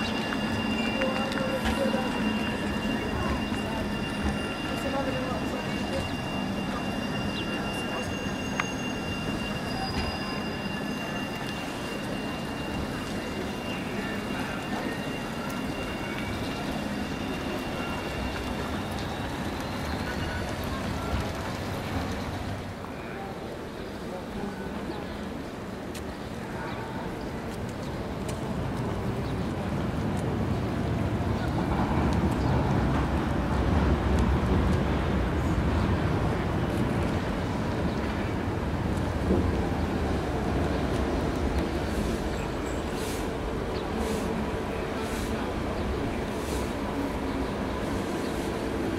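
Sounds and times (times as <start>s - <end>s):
tram rolling over track: 0.0s - 48.9s.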